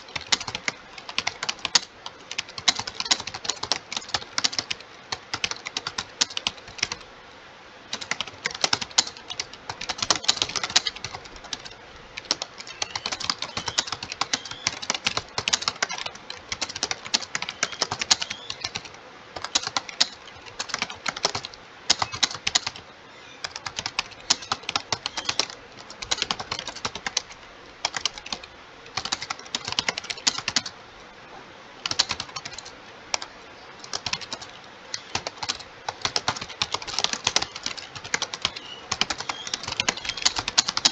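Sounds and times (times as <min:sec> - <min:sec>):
fast typing on computer keyboard: 0:00.0 - 0:07.1, 0:07.9 - 0:22.8, 0:23.4 - 0:30.8, 0:31.8 - 0:40.9.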